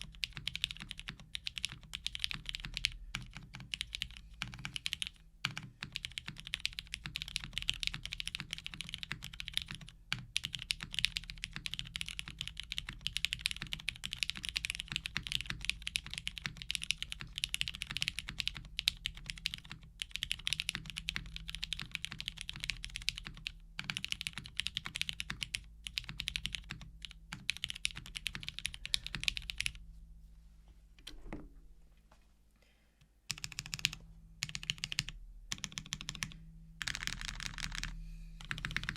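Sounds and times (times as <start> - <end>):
fast mechanical keyboard typing: 0.0 - 29.8, 33.3 - 38.9.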